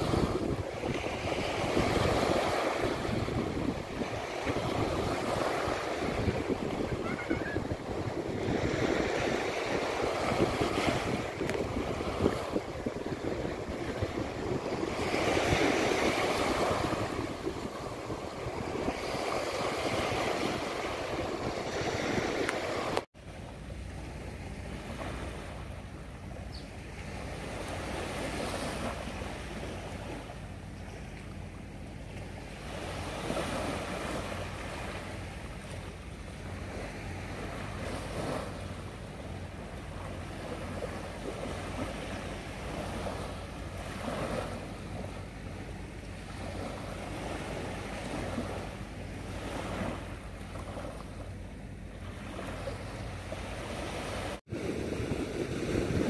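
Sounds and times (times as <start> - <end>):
small waves washing onto beach: 0.0 - 56.0.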